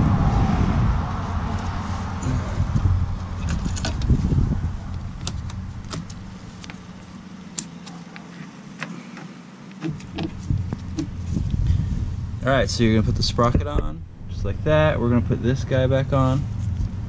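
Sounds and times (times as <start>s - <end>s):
low rumble: 0.0s - 7.3s, 10.3s - 17.0s.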